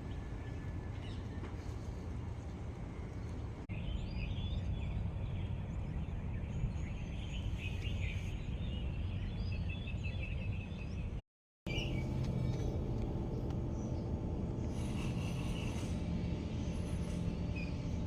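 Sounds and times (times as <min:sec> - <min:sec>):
low background rumble: 0:00.0 - 0:18.0
small birds chirping: 0:00.0 - 0:18.0.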